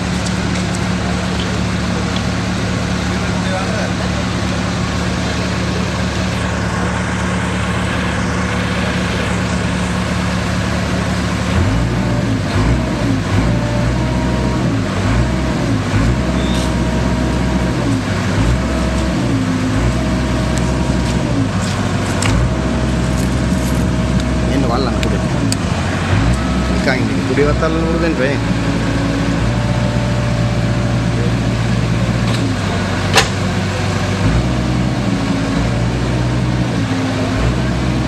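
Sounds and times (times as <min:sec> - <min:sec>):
excavator diesel engine under load: 0:00.0 - 0:38.0.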